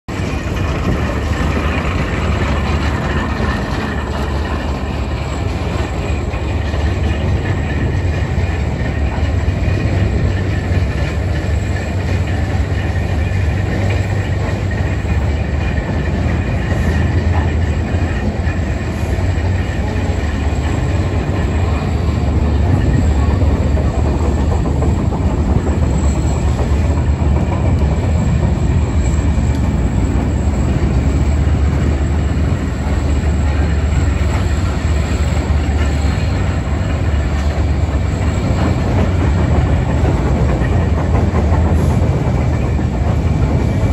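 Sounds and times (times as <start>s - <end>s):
turntable bridge rumbling: 0.1s - 43.9s.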